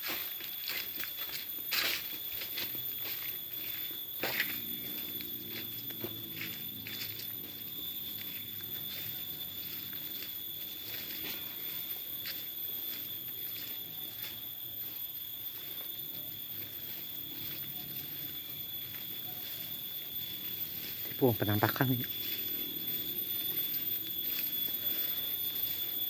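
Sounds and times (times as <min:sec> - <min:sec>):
footsteps on forest floor: 0:00.0 - 0:26.0
forest insects droning: 0:00.0 - 0:26.0.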